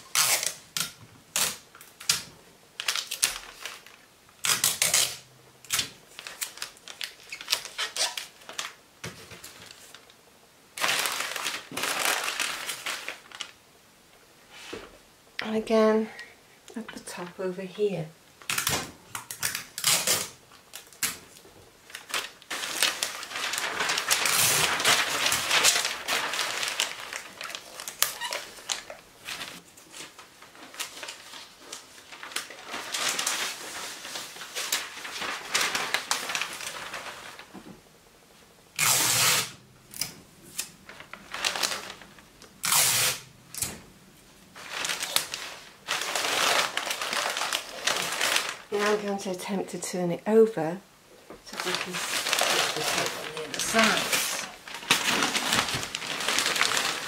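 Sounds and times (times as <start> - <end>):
packing paper crinkling: 0.0 - 10.2, 10.8 - 13.6, 18.4 - 37.6, 38.8 - 43.3, 44.4 - 49.2, 51.4 - 57.0.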